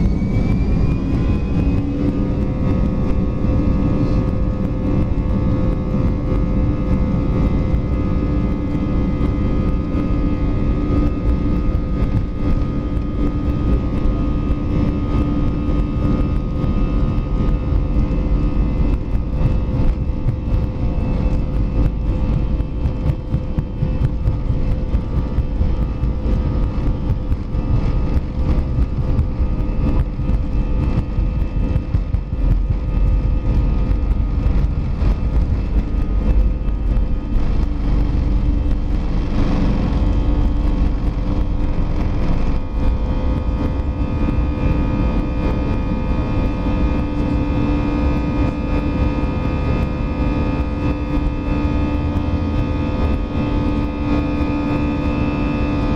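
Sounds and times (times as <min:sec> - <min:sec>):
jet engines humming: 0:00.0 - 0:55.9
low wheel rumble: 0:00.0 - 0:55.9.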